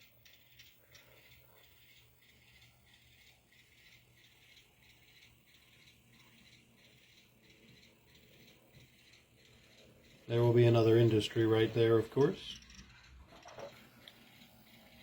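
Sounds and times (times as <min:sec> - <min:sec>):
model train clicking on track: 0:00.0 - 0:15.0.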